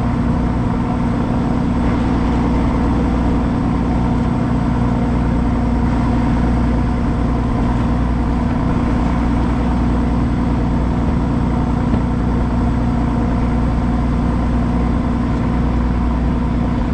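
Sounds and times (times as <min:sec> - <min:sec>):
motor humming: 0:00.0 - 0:16.9.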